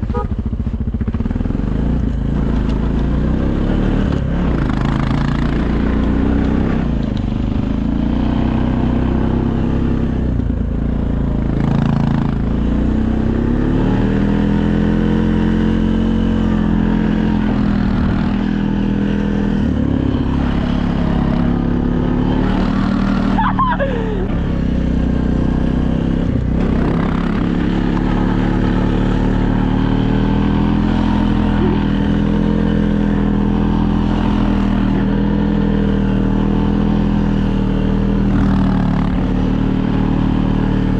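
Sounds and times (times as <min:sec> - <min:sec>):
small vehicle engine under load: 0:00.0 - 0:40.9.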